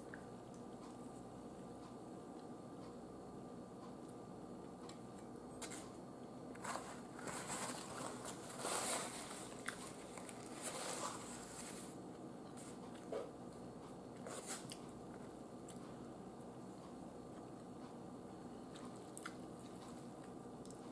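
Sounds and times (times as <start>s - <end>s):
person chewing soft bread: 0.0s - 3.0s, 3.6s - 20.9s.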